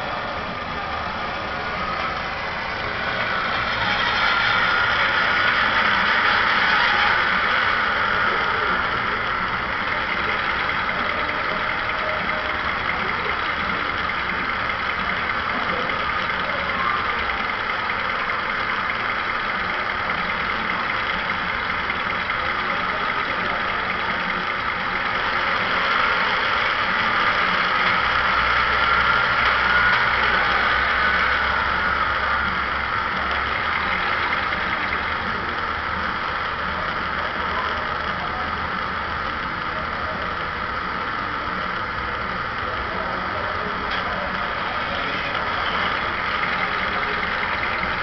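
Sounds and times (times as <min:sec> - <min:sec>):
sampled diesel locomotive engine: 0:00.0 - 0:48.0.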